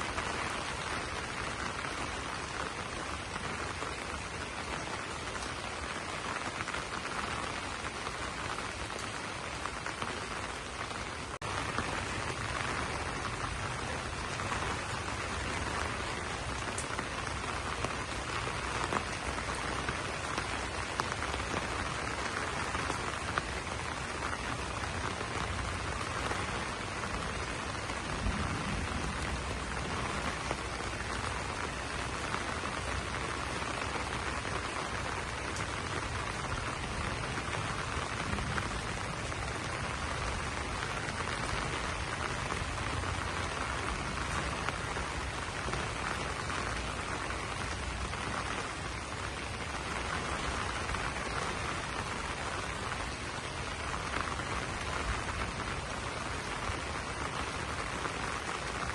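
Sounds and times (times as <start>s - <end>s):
rain on broad leaves: 0.0s - 58.9s.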